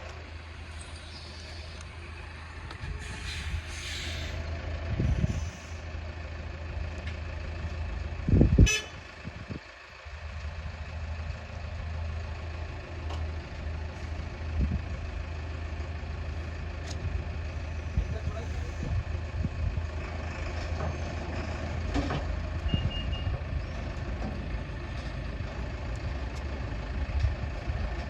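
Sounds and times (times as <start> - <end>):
heavy vehicle engine humming: 0.0 - 28.0.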